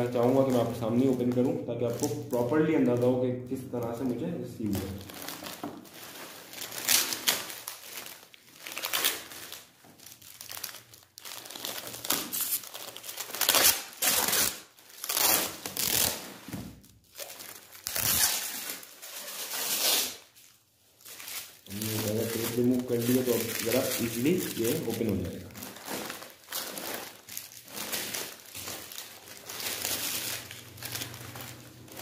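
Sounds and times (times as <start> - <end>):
foil and plastic film tearing: 0.0 - 32.0.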